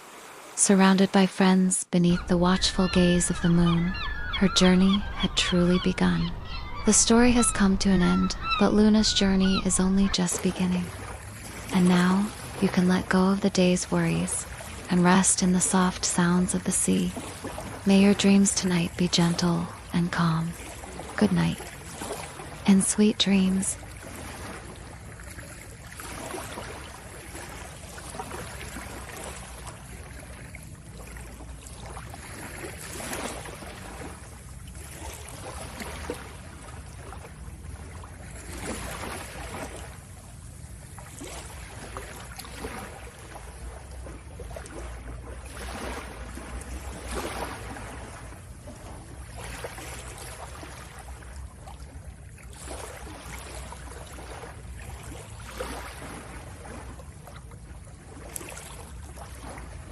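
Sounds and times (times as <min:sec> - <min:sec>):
water lapping: 0:00.0 - 0:59.9.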